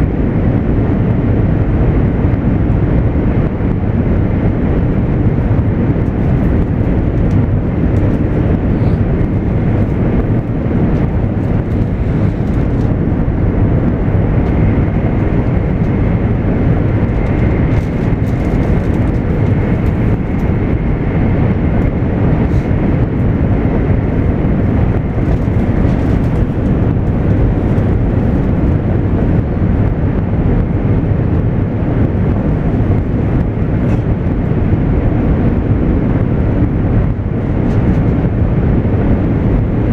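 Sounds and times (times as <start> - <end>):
train cabin rumble: 1.2 - 39.9.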